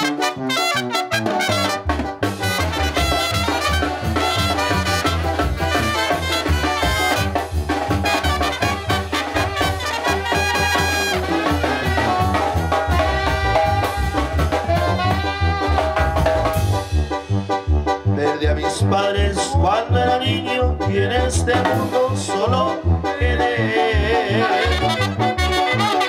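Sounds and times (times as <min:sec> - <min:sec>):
brass band playing: 0:00.0 - 0:26.0
bass drum beat: 0:01.1 - 0:26.0.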